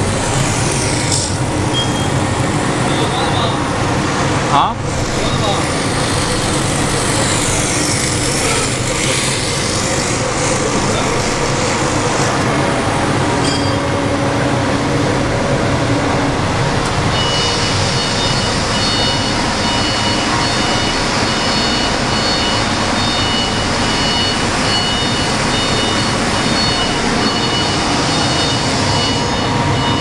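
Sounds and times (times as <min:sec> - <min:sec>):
engraving machine running: 0:00.0 - 0:30.0.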